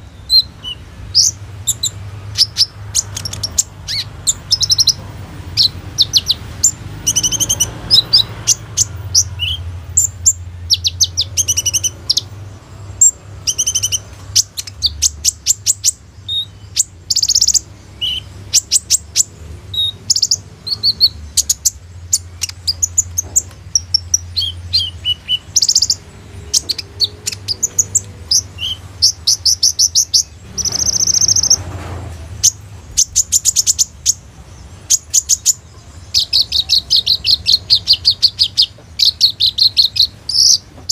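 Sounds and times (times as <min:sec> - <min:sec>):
sunbird singing: 0:00.0 - 0:31.6, 0:32.3 - 0:40.9.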